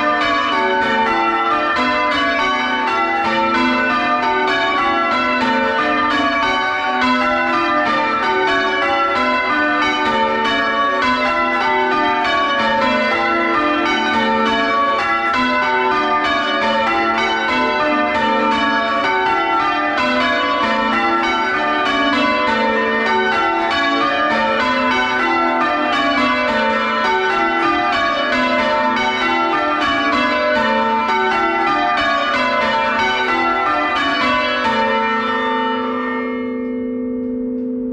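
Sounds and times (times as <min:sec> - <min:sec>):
church bells ringing: 0:00.0 - 0:37.9.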